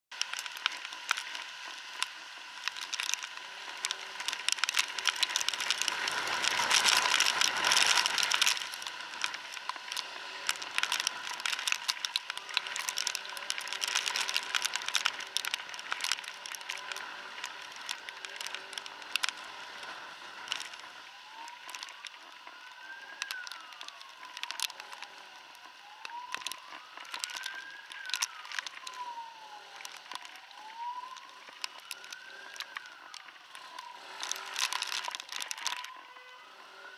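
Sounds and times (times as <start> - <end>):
raindrops crackling on microphone: 0.1 - 36.9
rainy traffic noise: 0.1 - 36.9
siren wailing: 2.6 - 36.9.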